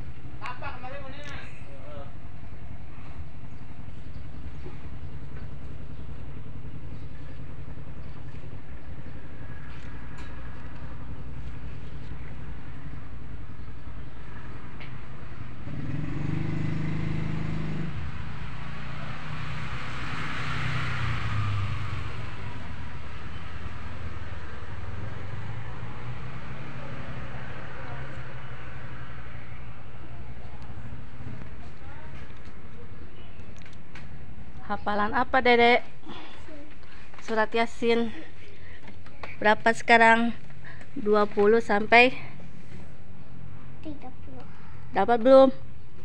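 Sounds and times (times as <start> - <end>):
traffic rumble: 0.0 - 46.0
vehicle passing: 6.3 - 45.8.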